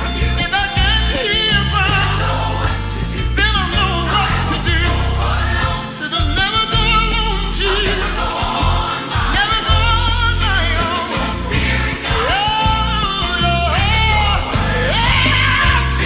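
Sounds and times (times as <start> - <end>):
band with strong bass line: 0.0 - 16.0
gospel choir singing: 0.0 - 16.0.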